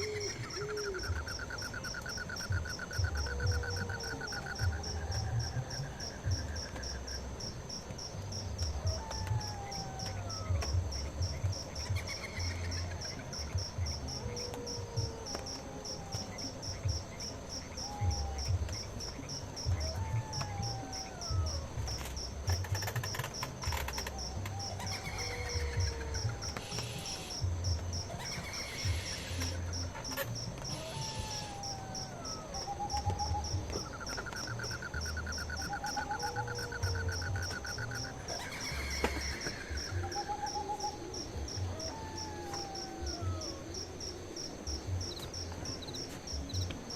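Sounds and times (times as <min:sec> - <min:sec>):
cricket trilling: 0:00.0 - 0:46.9
insects chirping: 0:00.0 - 0:46.9.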